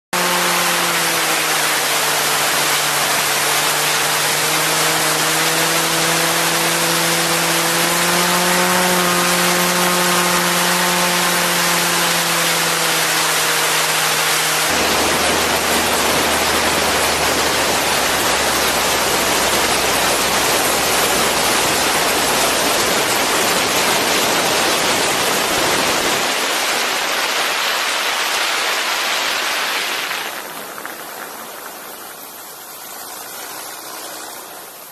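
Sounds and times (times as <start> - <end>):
airplane engine and propeller: 0.1 - 34.9.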